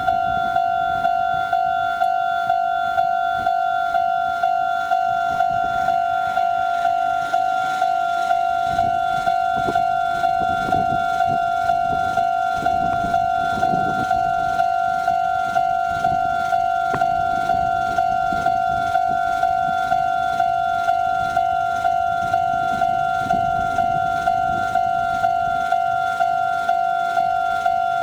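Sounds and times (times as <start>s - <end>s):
level crossing warning bell: 0.0s - 28.0s.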